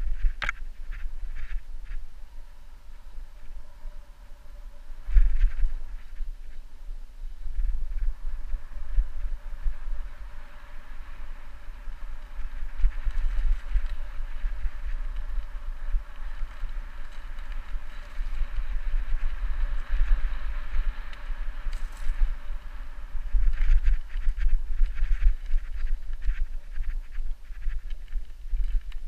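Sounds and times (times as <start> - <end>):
bike tyres on dirt trail: 0.0 - 29.0
wind buffeting microphone: 0.0 - 29.0.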